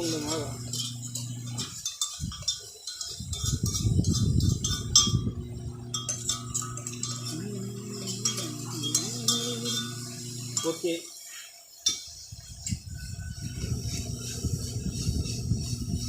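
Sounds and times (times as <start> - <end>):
metal spoon scraping pot: 0.0 - 11.3, 11.9 - 16.0.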